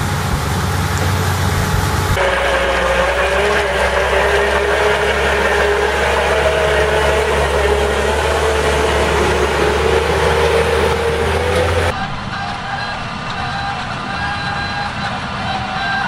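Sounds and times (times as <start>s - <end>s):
machine engine hum with whine: 0.0s - 16.0s.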